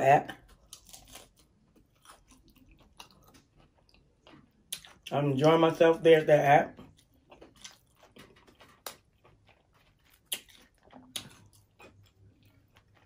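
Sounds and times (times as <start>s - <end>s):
soft chewing: 0.2s - 5.6s, 6.6s - 13.0s
crisp food crunching: 0.2s - 6.0s, 6.6s - 13.0s.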